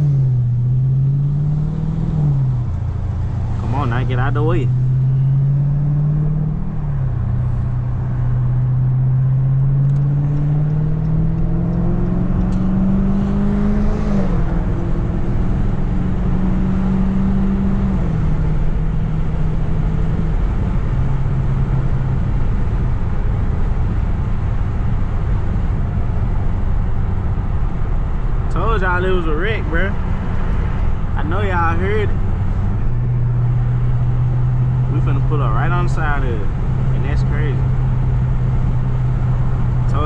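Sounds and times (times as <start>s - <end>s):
car engine shifting gears: 0.0s - 40.0s.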